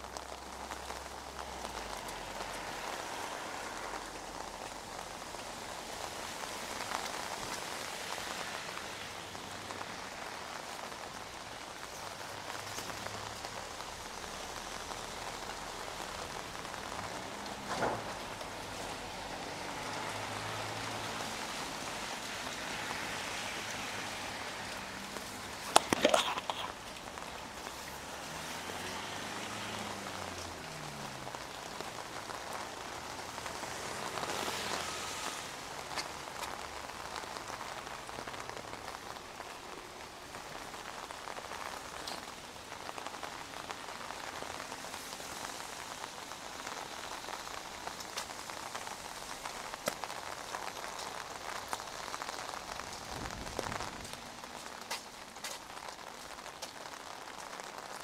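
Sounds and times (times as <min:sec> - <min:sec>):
rain on a wet street: 0:00.0 - 0:58.0.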